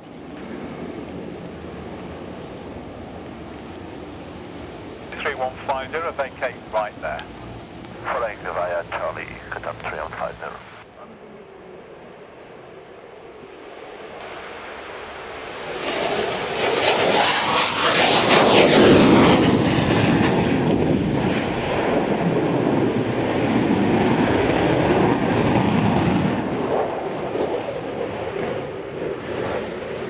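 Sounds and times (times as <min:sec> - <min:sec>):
aircraft engine passing by: 0:00.0 - 0:30.0.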